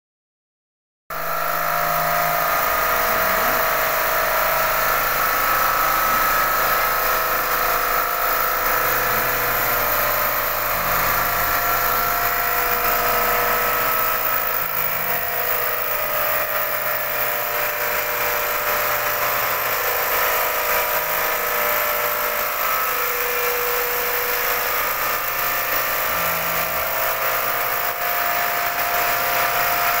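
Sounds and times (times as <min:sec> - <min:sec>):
quilting machine whirring: 0:01.3 - 0:30.0.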